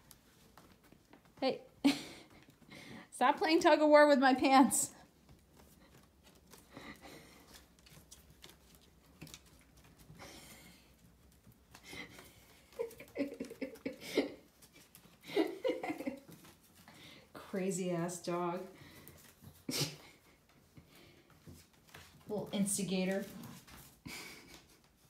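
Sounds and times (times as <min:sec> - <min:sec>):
paws scuffling: 0:00.0 - 0:02.8, 0:05.0 - 0:25.0.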